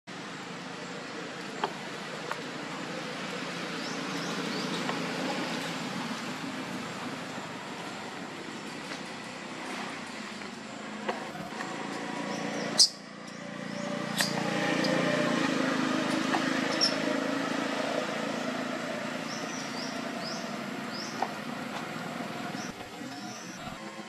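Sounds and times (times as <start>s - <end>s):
vehicle-like rumble: 0.1s - 24.0s.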